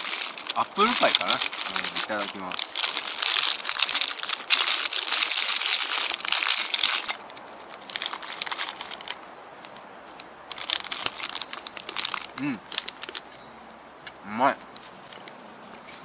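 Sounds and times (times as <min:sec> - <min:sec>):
plastic wrapper crinkling: 0:00.0 - 0:13.2.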